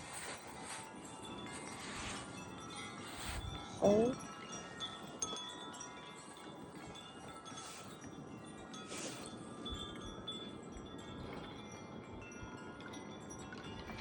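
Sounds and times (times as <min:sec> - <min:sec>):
gusting wind: 0:00.0 - 0:12.3
wind chime ringing: 0:00.0 - 0:14.0.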